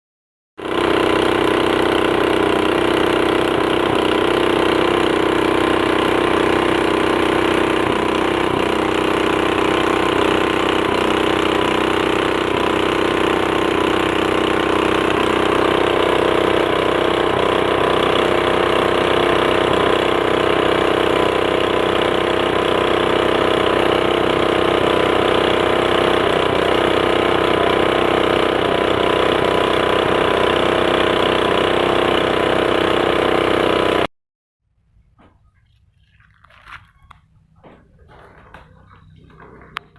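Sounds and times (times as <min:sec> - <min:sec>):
motor humming steadily: 0:00.6 - 0:34.1, 0:36.6 - 0:39.9.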